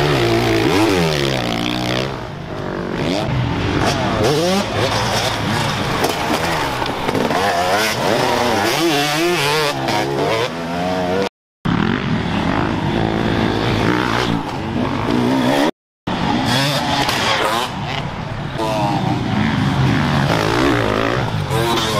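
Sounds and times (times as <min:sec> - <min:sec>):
dirt bike engines revving: 0:00.0 - 0:21.9.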